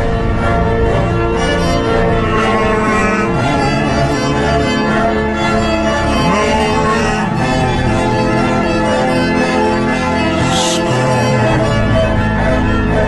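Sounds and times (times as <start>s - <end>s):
orchestral music with bowed strings: 0.0s - 13.0s.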